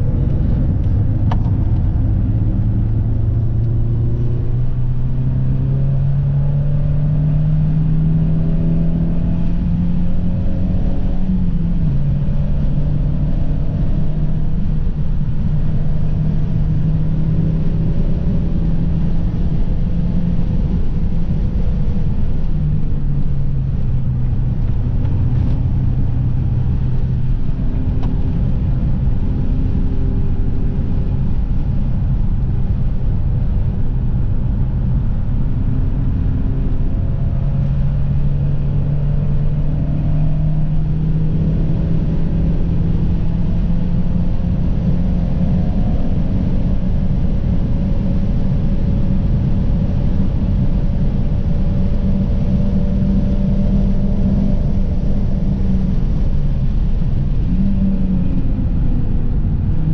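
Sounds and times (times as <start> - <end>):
car engine under hard driving: 0.0 - 59.9.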